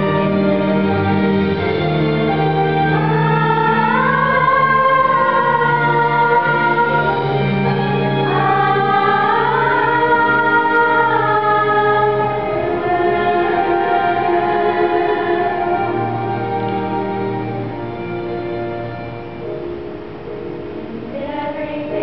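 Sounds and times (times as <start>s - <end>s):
female choir singing in harmony: 0.0s - 18.9s
instrumental accompaniment: 0.0s - 22.0s.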